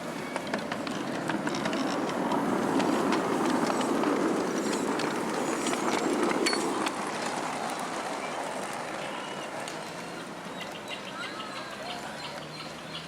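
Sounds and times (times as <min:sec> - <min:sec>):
miniature train wheels rumbling: 0:00.0 - 0:13.0
wheels clicking over rail joints: 0:00.0 - 0:13.0.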